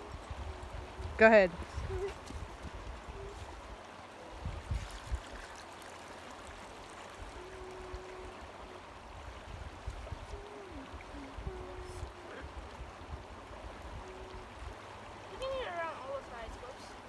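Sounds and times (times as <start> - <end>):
flowing river water: 0.0 - 17.0.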